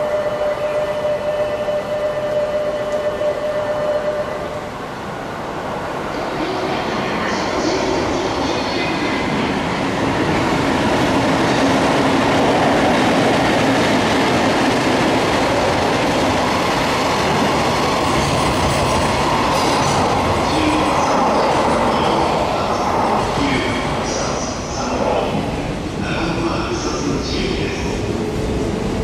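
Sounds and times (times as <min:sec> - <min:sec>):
train wheels on rail: 0:00.0 - 0:29.0.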